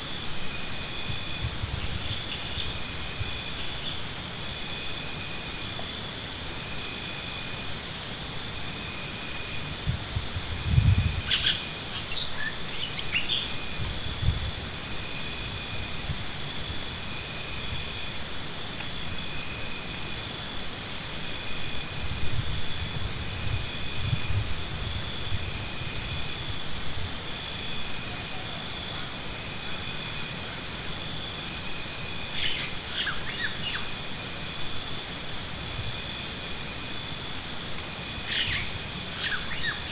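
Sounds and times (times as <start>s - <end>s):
insects pulsing trills: 0.0s - 39.9s.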